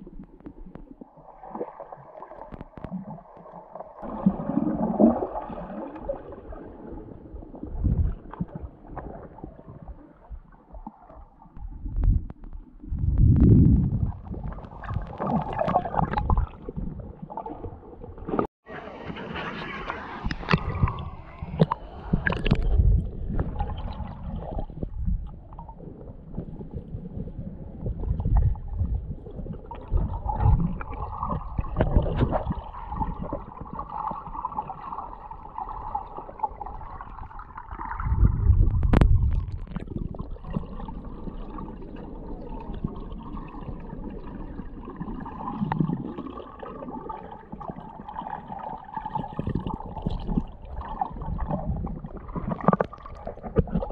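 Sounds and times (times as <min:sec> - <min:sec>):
muffled underwater gurgling: 0:02.4 - 0:53.9.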